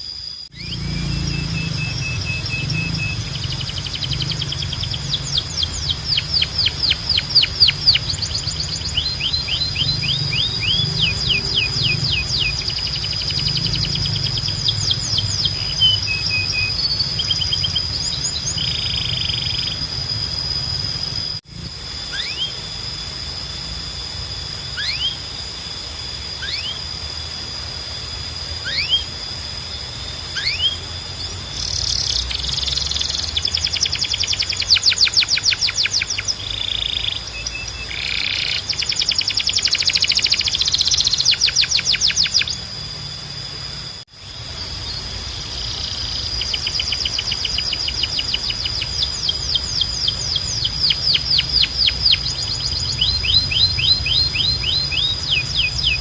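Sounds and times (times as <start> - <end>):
canary singing: 0.0 - 21.4, 22.0 - 56.0
low hum: 0.0 - 56.0
steady high tone: 0.0 - 56.0.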